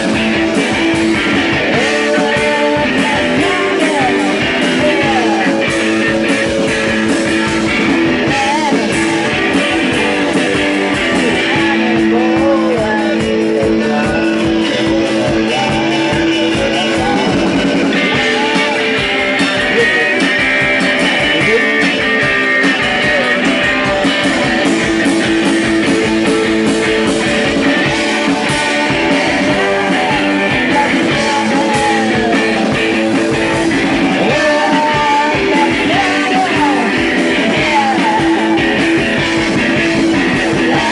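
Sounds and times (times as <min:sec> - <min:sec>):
drums and bass: 0:00.0 - 0:40.9
electric guitars playing chords: 0:00.0 - 0:40.9
person singing: 0:00.0 - 0:40.9.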